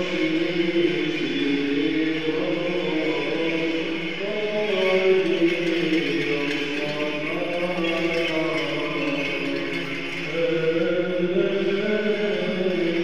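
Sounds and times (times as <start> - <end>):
voices chanting a slow melody: 0.0 - 13.0.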